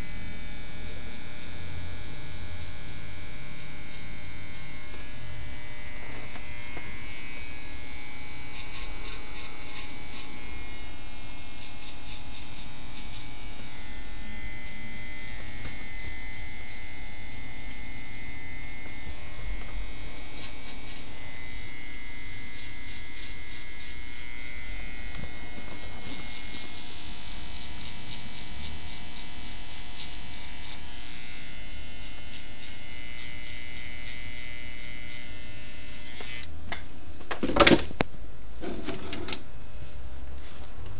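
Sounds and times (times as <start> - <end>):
electric hair trimmer buzzing: 0.0 - 36.6.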